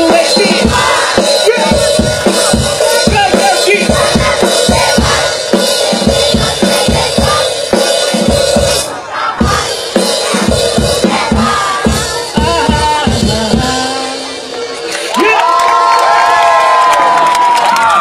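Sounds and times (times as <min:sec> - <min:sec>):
heavy bass drum: 0:00.0 - 0:14.5
drum kit beat: 0:00.0 - 0:15.1
live concert music: 0:00.0 - 0:18.0.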